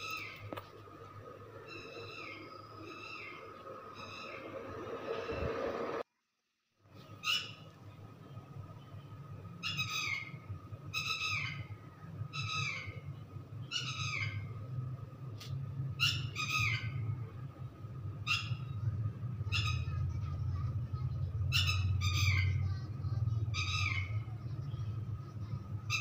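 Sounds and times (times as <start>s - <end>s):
steady low hum: 0.0s - 6.1s, 6.9s - 26.0s.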